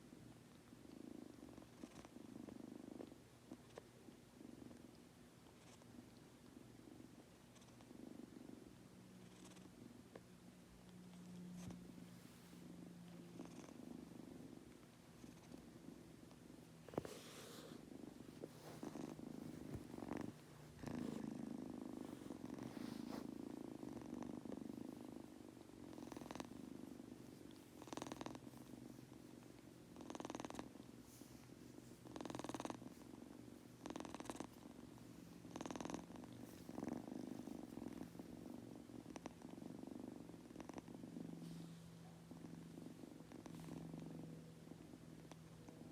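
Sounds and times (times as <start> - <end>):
kitten purring: 0.0 - 45.9.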